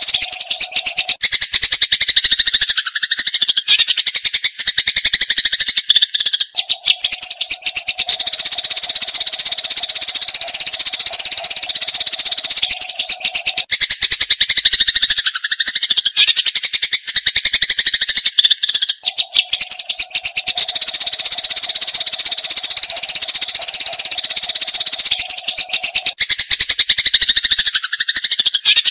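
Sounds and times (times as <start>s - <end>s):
sparrow rapid chatter: 0.0s - 28.9s.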